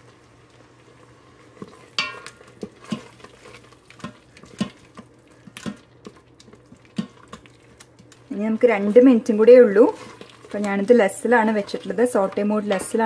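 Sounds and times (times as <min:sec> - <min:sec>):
wooden spoon scraping pot: 0:01.3 - 0:13.0.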